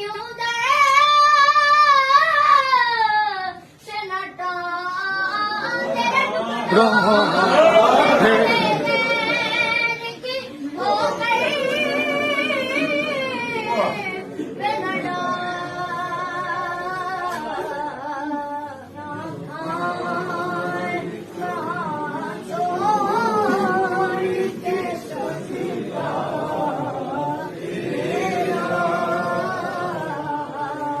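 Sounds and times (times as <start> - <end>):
unaccompanied devotional singing: 0.0 - 31.0.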